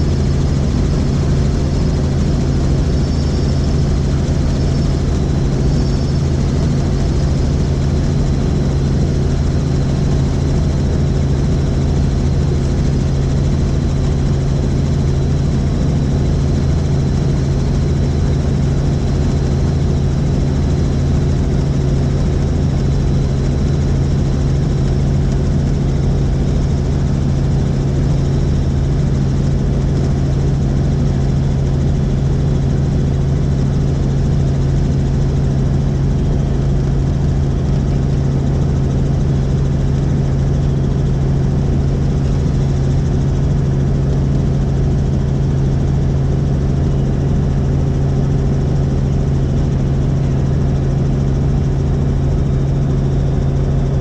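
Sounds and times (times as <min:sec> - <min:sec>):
helicopter rotor and engine noise: 0:00.0 - 0:54.0.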